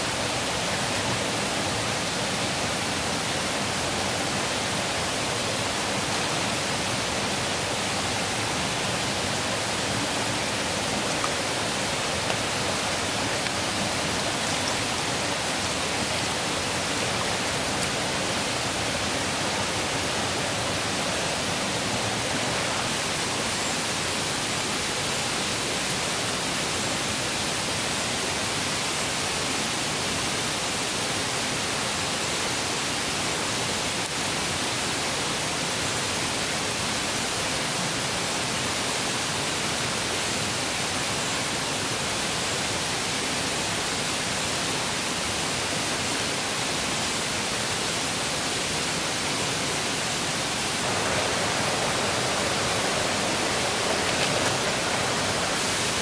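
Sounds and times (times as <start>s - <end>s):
rocky stream rushing: 0.0s - 56.0s.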